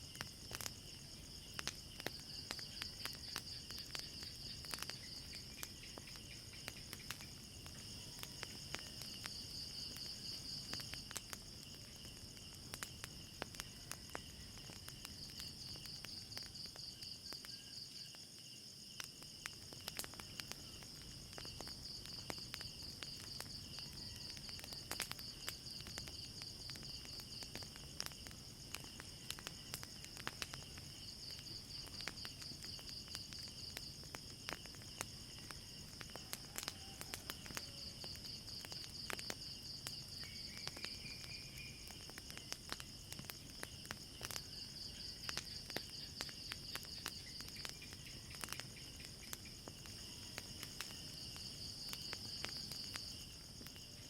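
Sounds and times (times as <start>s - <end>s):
crickets chirping: 0.0s - 54.0s
fire crackling: 0.0s - 54.0s.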